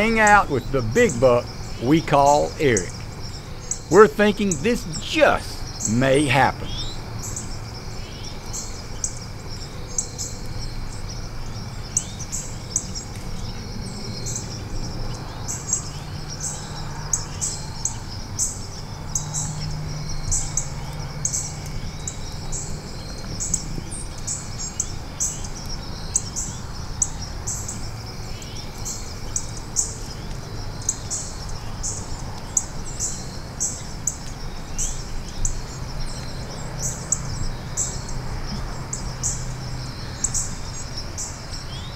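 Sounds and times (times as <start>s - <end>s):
steady high insect hum: 0.0s - 41.9s.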